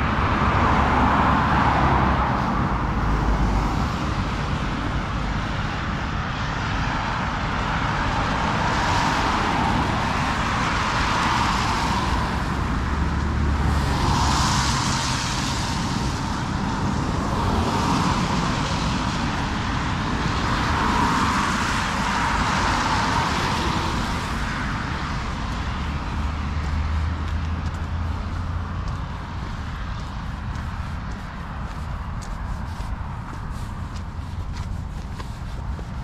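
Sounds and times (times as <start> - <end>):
cars passing: 0.0 - 36.0
steady traffic hum: 0.0 - 36.0.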